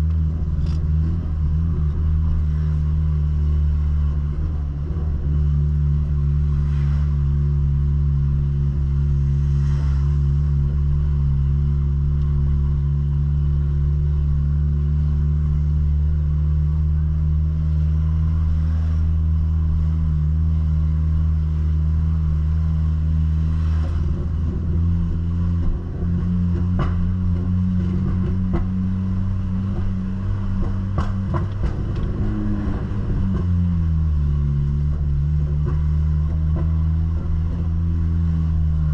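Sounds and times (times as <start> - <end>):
car exhaust droning: 0.0 - 38.9.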